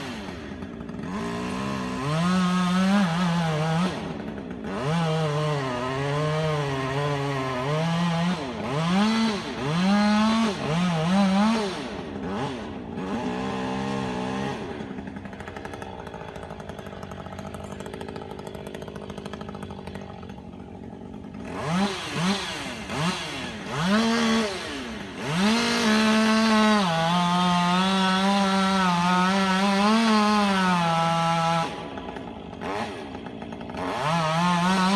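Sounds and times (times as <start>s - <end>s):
chainsaw engine revving: 0.0s - 34.9s.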